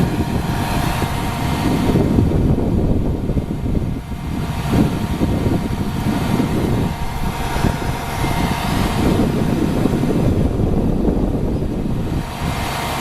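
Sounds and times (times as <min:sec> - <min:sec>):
faint steady hum: 0:00.0 - 0:13.0
motor vehicle engine rumble: 0:00.0 - 0:13.0.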